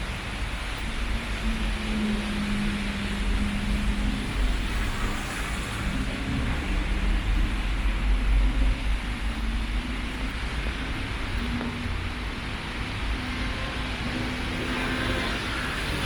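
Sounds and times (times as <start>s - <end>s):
low rumble: 0.0s - 14.2s.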